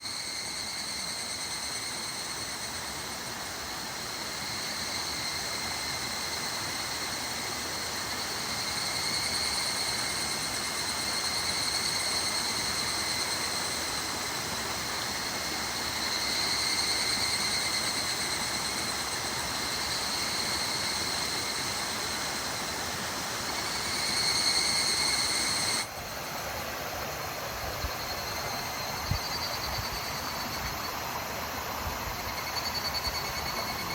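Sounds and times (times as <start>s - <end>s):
cicadas calling high-pitched: 0.0s - 33.9s.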